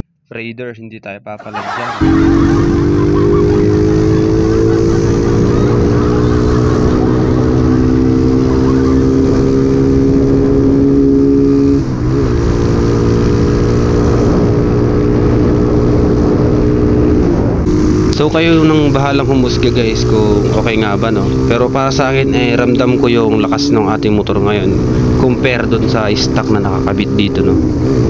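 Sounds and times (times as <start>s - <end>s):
motorcycle engine accelerating: 1.6s - 28.0s.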